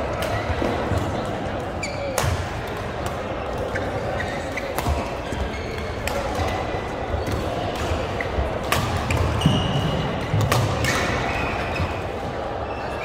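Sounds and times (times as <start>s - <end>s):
rackets striking shuttlecock: 0.1s - 11.7s
shoes squeaking on court floor: 1.6s - 13.0s.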